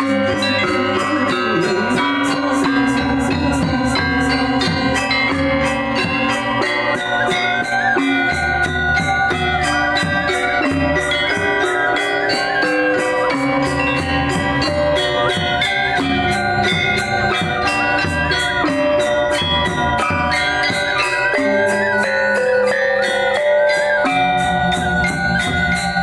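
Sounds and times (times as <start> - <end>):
gamelan metallophones and gongs: 0.0 - 26.0.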